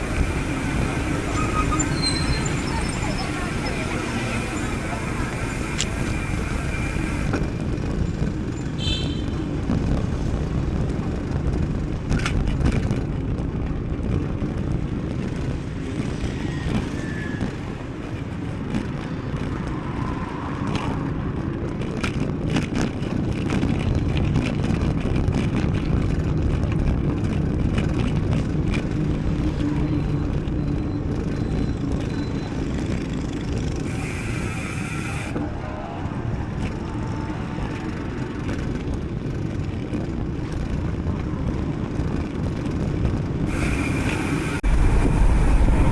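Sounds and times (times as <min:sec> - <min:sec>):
tyres rolling over trail: 0:00.0 - 0:08.7, 0:15.0 - 0:45.9
wind on microphone: 0:00.0 - 0:30.6, 0:33.6 - 0:45.9.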